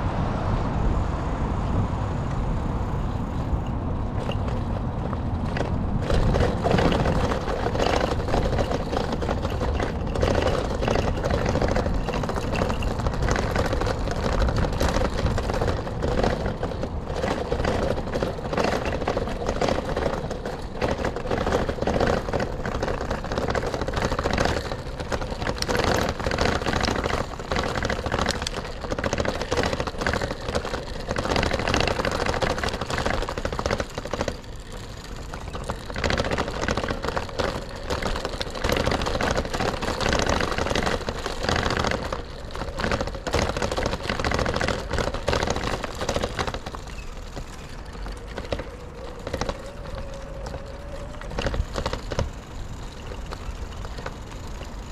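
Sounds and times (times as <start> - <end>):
low traffic rumble: 0.0 - 54.9
bicycle rattling clicks: 3.3 - 54.9.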